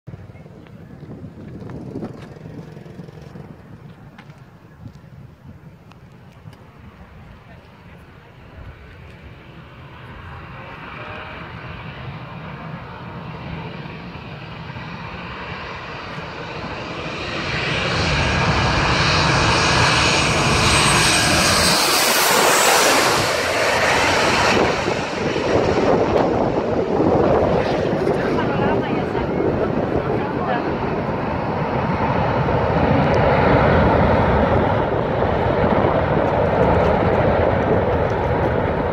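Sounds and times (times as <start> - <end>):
jet engine noise overhead: 0.1 - 38.9.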